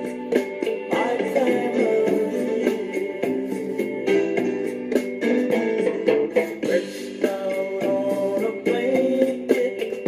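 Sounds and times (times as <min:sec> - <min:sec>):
song with plucked guitar: 0:00.0 - 0:10.0
steady beat: 0:00.0 - 0:10.0.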